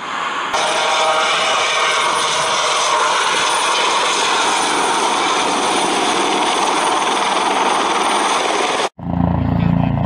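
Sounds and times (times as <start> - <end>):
helicopter flying past: 0.6 - 10.0.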